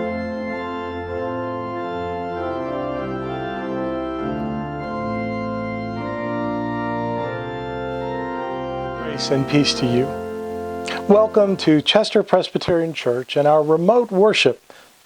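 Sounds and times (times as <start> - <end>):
organ playing sustained chords: 0.0 - 13.2.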